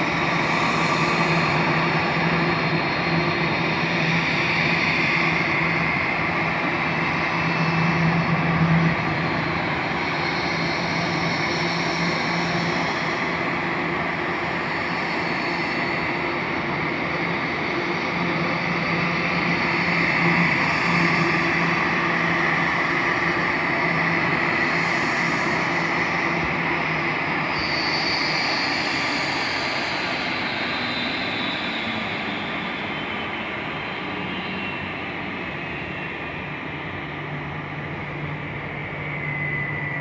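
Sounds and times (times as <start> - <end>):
aircraft engines running: 0.0 - 40.0.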